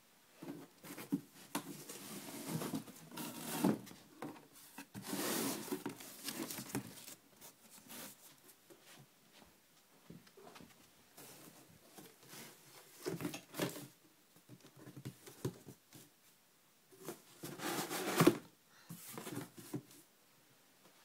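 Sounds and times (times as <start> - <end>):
cat rustling and scuffling: 0.4 - 20.1.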